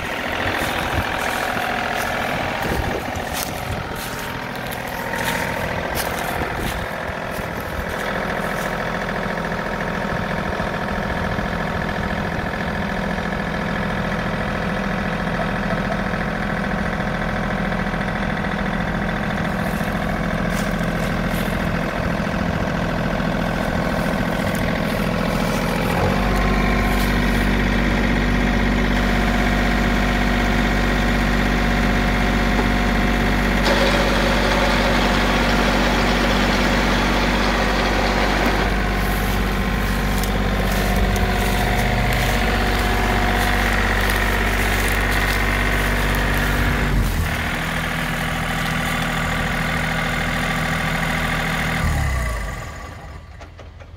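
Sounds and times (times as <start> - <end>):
diesel tractor engine idling: 0.0 - 53.9.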